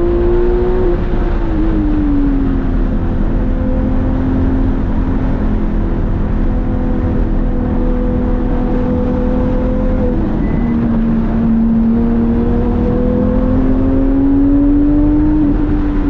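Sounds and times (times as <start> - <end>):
sports car engine at speed: 0.0 - 16.0.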